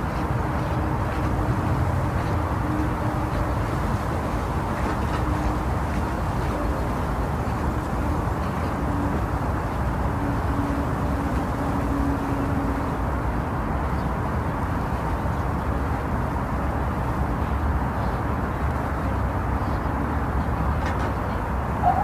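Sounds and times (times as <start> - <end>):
muffled white noise rumble: 0.0 - 22.0.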